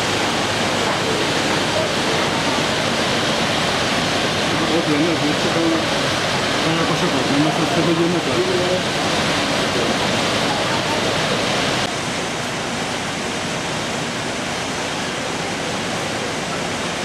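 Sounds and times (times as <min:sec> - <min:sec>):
steady broadband rushing noise: 0:00.0 - 0:17.0.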